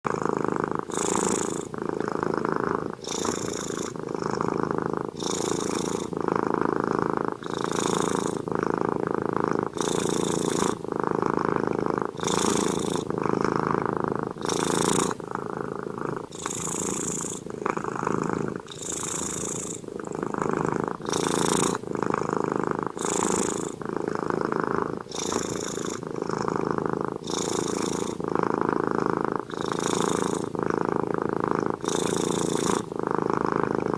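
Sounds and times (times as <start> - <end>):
cat snoring: 0.0 - 33.9.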